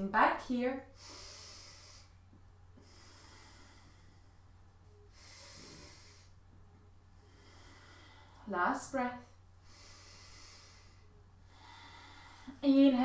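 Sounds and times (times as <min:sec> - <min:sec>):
steady low hum: 0:00.0 - 0:13.0
slow airy breathing: 0:00.9 - 0:08.5, 0:09.2 - 0:12.6.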